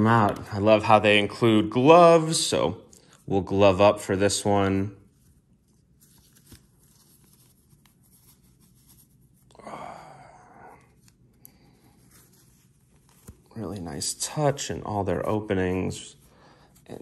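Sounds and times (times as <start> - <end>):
gloves rustling: 0.0 - 17.0.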